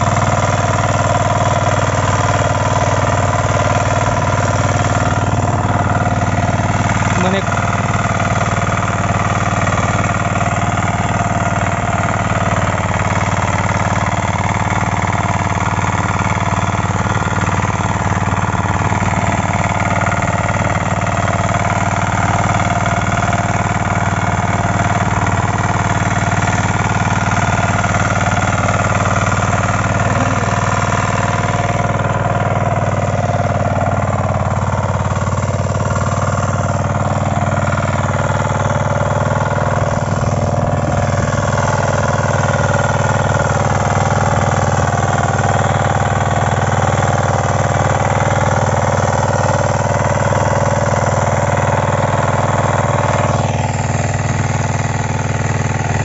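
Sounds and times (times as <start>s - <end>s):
diesel engine knocking: 0.0s - 56.0s.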